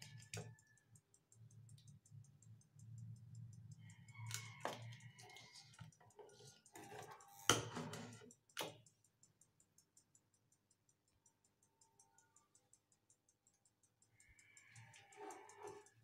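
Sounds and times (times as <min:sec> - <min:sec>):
high-pitched ticking: 0:00.0 - 0:07.4, 0:08.1 - 0:16.0.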